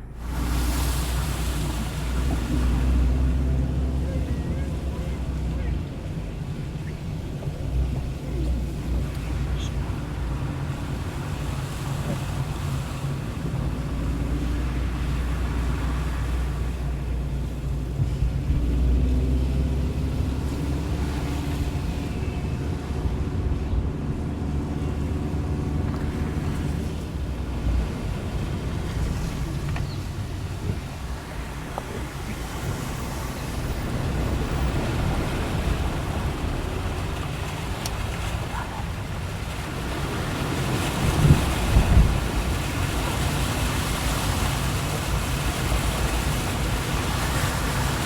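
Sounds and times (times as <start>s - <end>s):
vehicle engine rumbling: 0.0s - 48.0s
water washing: 0.0s - 48.0s.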